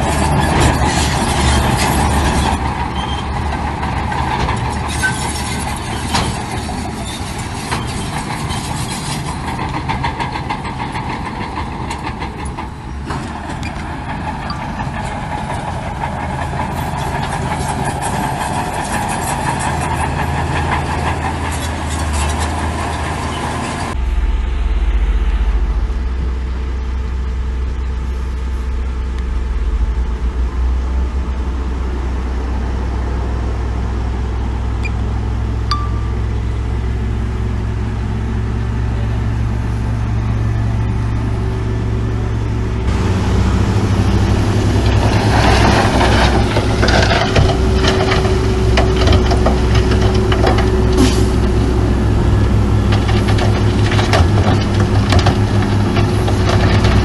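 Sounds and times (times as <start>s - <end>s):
diesel machinery engine: 0.0s - 57.0s.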